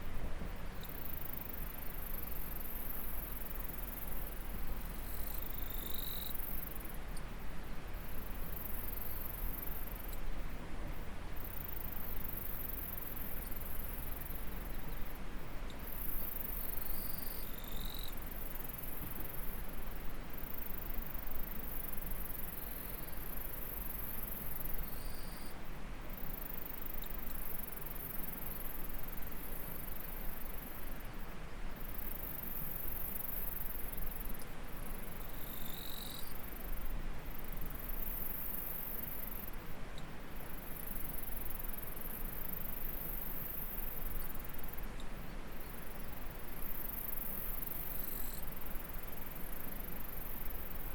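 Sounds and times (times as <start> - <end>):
insects droning: 0.8 - 10.2, 11.3 - 31.2, 31.8 - 50.9.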